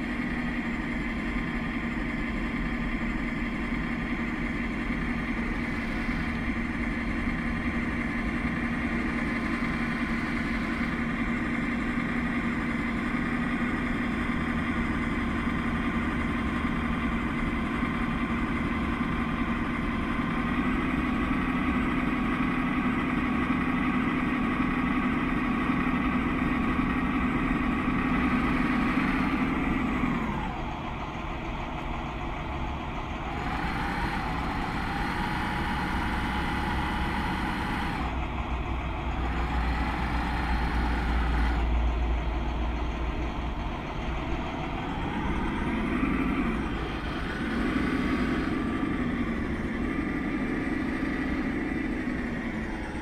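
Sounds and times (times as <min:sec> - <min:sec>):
model tractor motor whining: 0:00.0 - 0:53.0.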